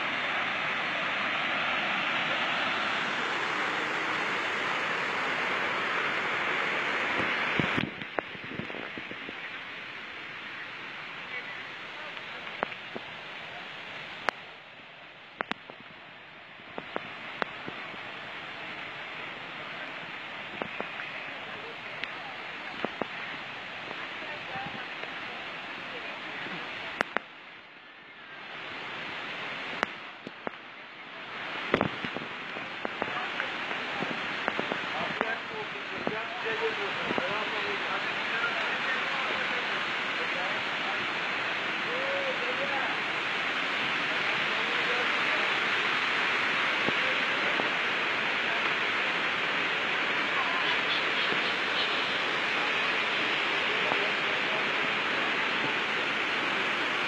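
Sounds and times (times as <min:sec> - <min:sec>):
faint voices: 0:00.0 - 0:57.0
rushing water: 0:00.0 - 0:57.0.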